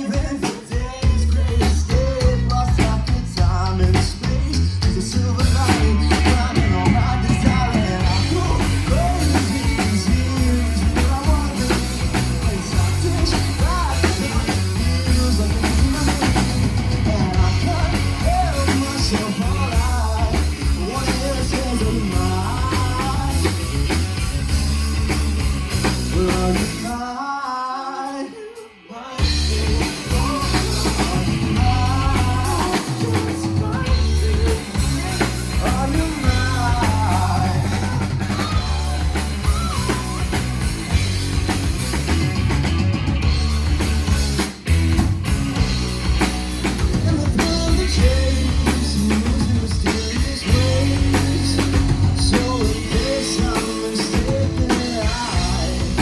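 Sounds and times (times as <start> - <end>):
person singing: 0.0 - 23.9, 26.0 - 40.7, 46.8 - 56.0
live rock band playing: 0.0 - 27.3, 28.0 - 56.0
drums: 0.0 - 56.0.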